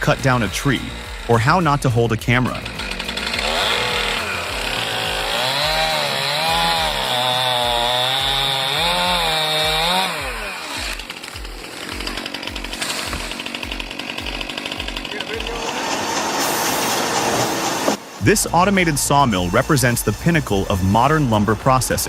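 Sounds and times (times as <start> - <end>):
chainsaw cutting: 0.0 - 22.0.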